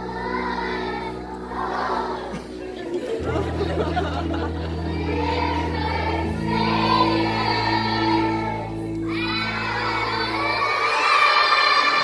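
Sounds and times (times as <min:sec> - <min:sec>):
children singing in unison: 0:00.0 - 0:12.0.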